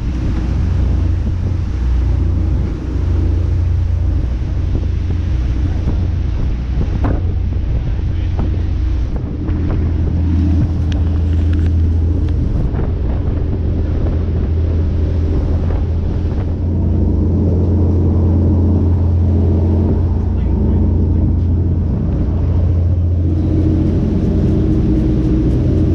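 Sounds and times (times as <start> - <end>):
boat engine drone: 0.0 - 25.9
wind buffeting microphone: 0.0 - 25.9.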